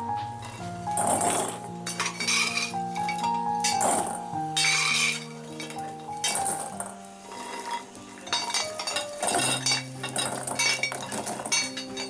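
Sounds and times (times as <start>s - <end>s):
background music: 0.0s - 12.0s
chestnuts clattering into metal bowl: 0.5s - 12.0s.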